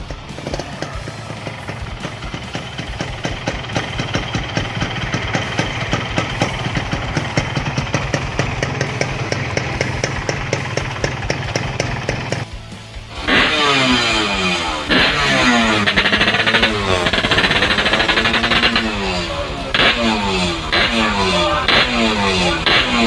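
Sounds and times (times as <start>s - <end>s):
exhaust popping: 0.0s - 23.0s
two-stroke engine idling: 0.0s - 23.0s.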